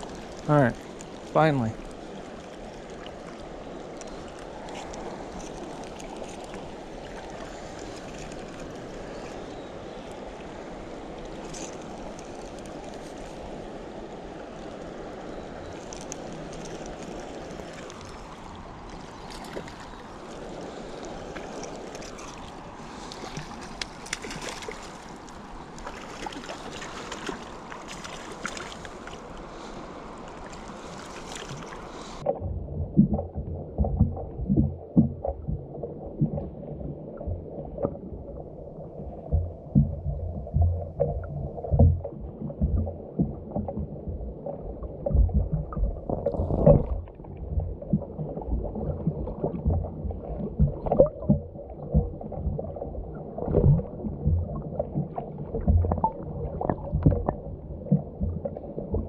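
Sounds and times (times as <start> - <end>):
flowing water rushing: 0.0 - 59.0
light wind: 0.0 - 59.0.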